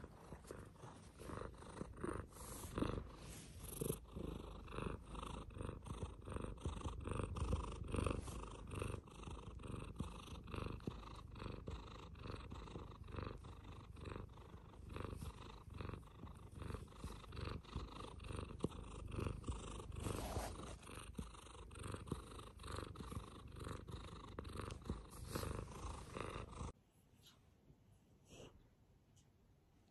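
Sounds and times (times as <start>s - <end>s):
cat purring: 0.0s - 26.8s.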